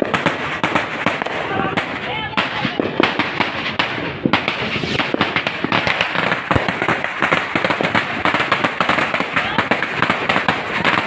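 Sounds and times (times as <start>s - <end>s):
firecrackers bangs and cracks: 0.0s - 11.0s.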